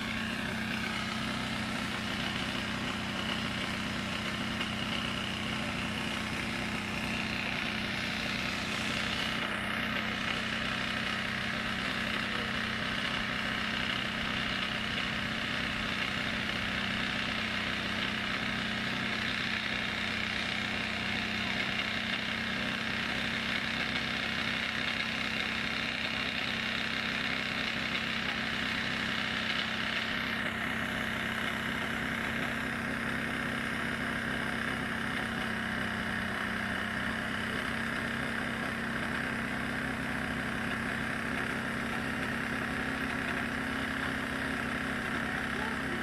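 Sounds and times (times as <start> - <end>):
engine running steadily: 0.0 - 46.0.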